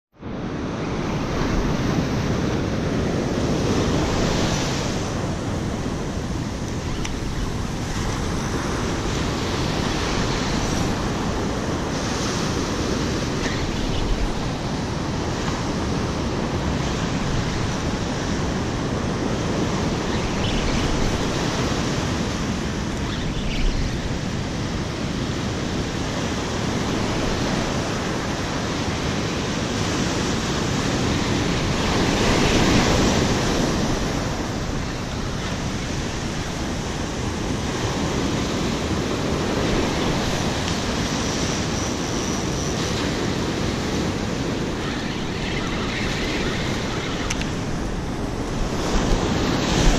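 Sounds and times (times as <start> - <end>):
ocean waves breaking on beach: 0.2 - 49.9
wind rumbling on microphone: 0.2 - 49.9.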